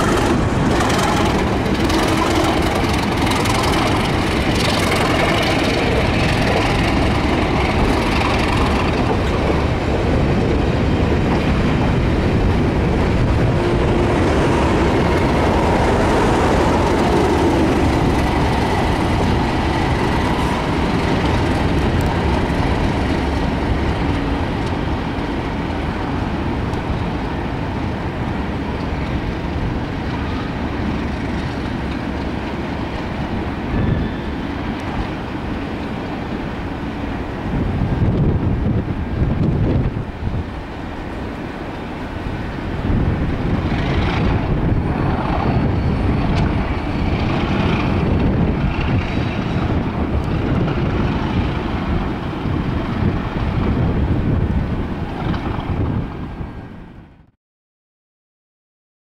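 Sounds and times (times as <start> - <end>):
diesel locomotive engine: 0.0 - 57.3
train wheels rumbling on rails: 0.0 - 57.3.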